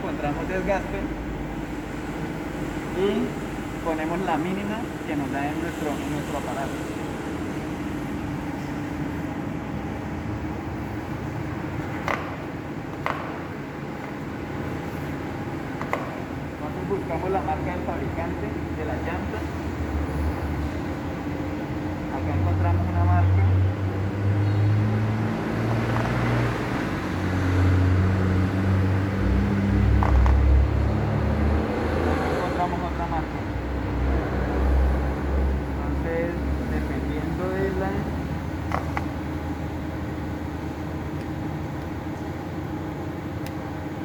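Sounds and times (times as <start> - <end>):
machinery humming: 0.0 - 44.0.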